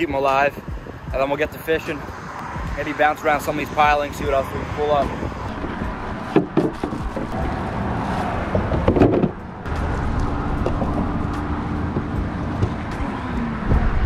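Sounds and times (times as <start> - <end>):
traffic rumble: 0.0 - 14.0
passing vehicle hum: 0.6 - 14.0.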